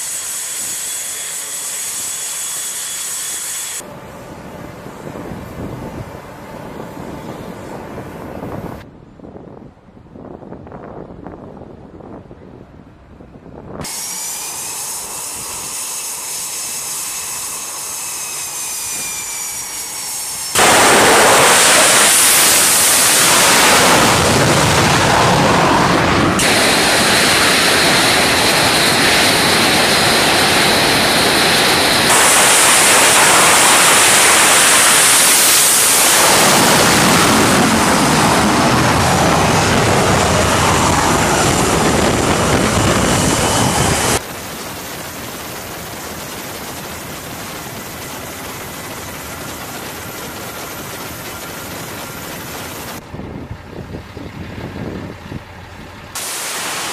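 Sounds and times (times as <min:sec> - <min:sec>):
jet turbine whine: 0:00.0 - 0:09.6, 0:13.6 - 0:56.9
jet engines at full power: 0:00.0 - 0:56.9.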